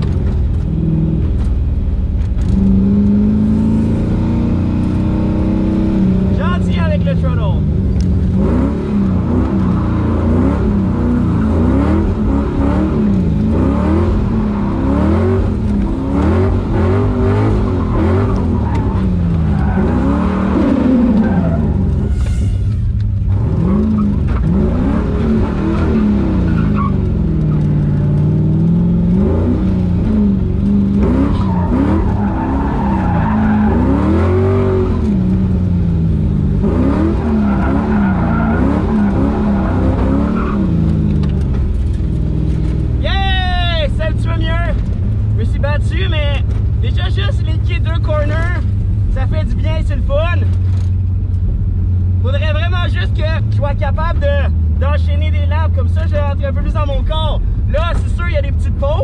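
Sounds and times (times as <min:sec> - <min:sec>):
car engine revving: 0:00.0 - 0:59.0
tyres skidding: 0:00.0 - 0:59.0.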